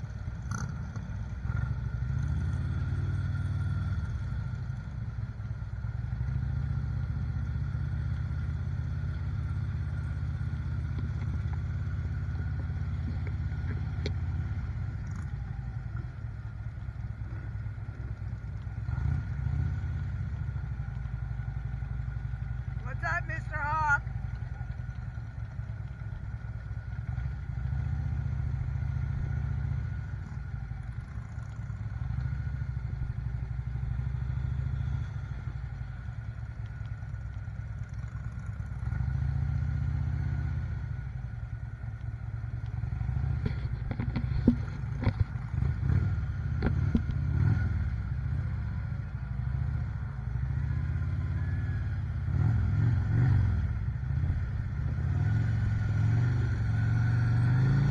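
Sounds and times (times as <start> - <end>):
motorcycle engines rumbling: 0.0 - 57.9.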